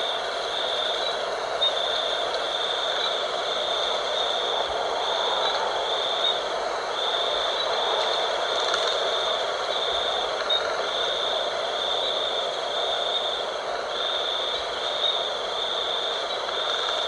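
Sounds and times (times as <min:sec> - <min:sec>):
pulsing insect trill: 0:00.0 - 0:17.0
wind blowing: 0:00.0 - 0:17.0.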